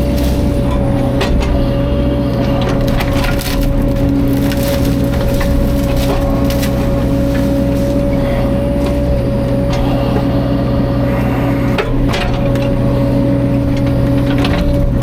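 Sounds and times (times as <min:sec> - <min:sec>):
wood cracking and breaking: 0:00.0 - 0:10.0, 0:11.9 - 0:15.0
excavator diesel engine running: 0:00.0 - 0:15.0.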